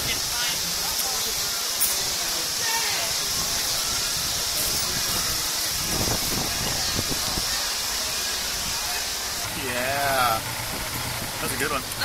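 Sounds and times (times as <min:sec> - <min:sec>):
steady hissing noise: 0:00.0 - 0:12.0.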